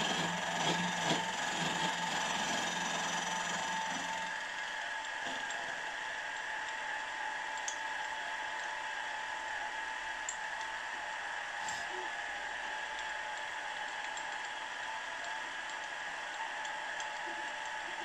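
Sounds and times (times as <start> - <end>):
milling machine whine: 0.0 - 18.0.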